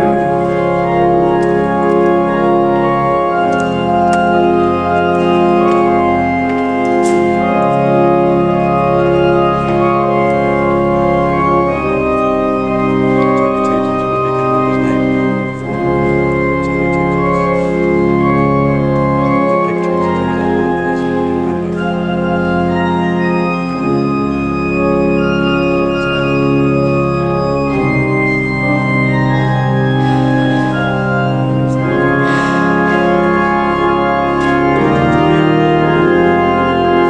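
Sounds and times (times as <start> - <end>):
pipe organ sustained chords: 0.0 - 37.0.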